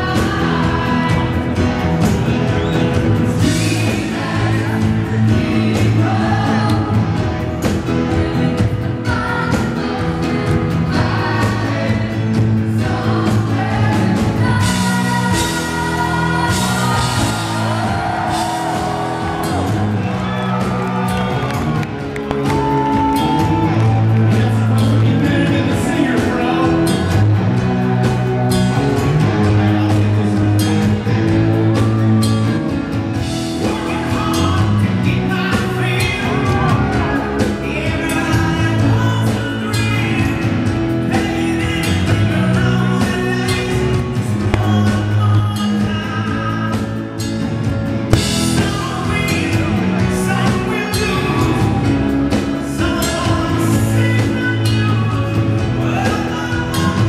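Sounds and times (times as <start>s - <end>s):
male lead vocal: 0.0s - 32.5s, 33.1s - 47.4s, 48.0s - 57.0s
drums: 0.0s - 57.0s
electric guitars: 0.0s - 57.0s.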